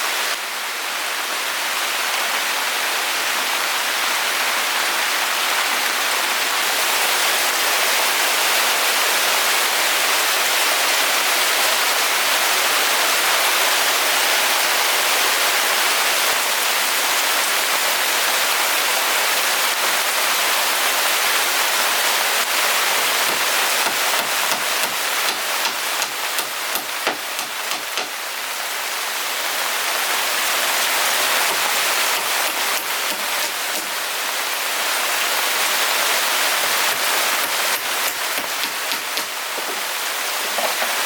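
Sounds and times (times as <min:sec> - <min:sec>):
hiss of falling water: 0:00.0 - 0:41.0.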